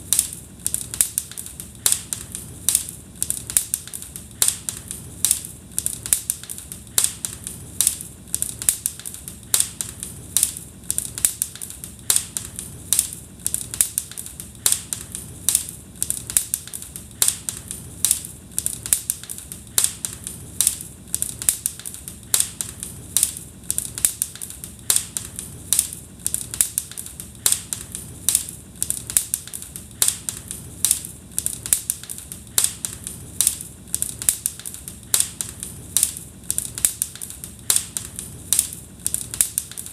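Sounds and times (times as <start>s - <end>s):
low rumble of flames: 0.0s - 39.6s
wood fire pops and snaps: 0.0s - 39.9s.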